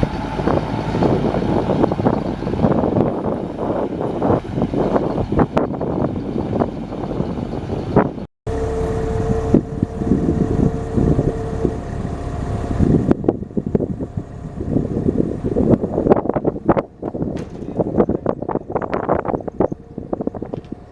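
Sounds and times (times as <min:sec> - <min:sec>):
steady whine: 0:00.0 - 0:20.9
truck engine running: 0:00.0 - 0:20.9
wind buffeting microphone: 0:00.0 - 0:20.9.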